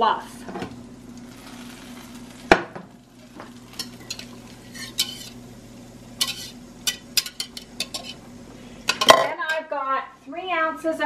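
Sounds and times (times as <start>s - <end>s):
faint sizzle in frying pan: 0.0s - 10.1s.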